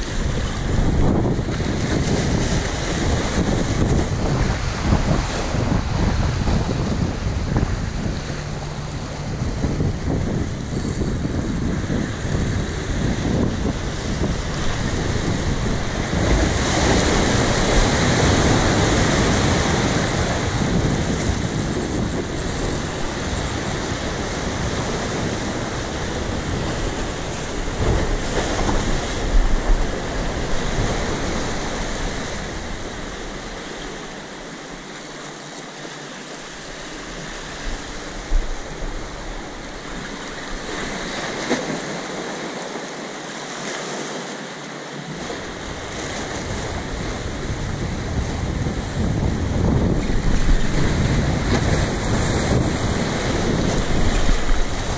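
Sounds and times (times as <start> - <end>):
wind buffeting microphone: 0.0 - 35.4, 36.5 - 42.8, 45.0 - 54.9
waves breaking over rocks: 0.0 - 54.9.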